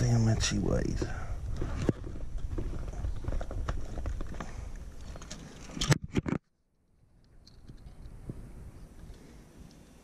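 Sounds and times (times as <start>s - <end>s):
wind rumbling on microphone: 0.0s - 6.3s, 7.0s - 10.0s.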